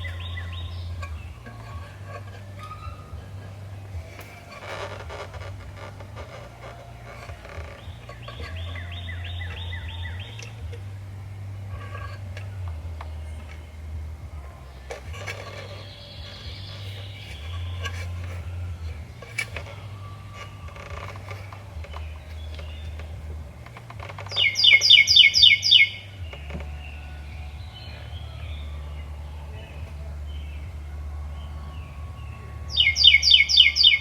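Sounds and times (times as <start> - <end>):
bird chirping: 0.0 - 34.0
low steady hum: 0.0 - 34.0.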